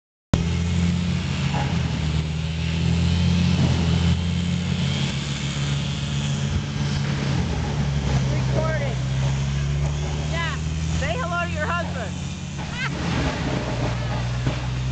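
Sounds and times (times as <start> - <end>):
chainsaw cutting wood: 0.4 - 14.9.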